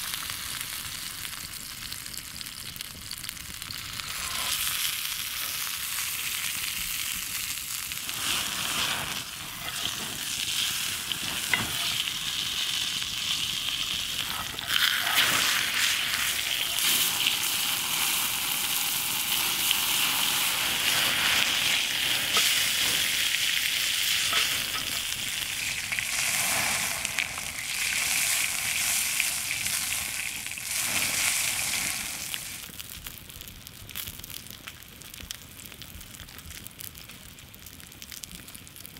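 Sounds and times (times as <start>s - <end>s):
steak sizzling in a pan: 0.0s - 33.0s.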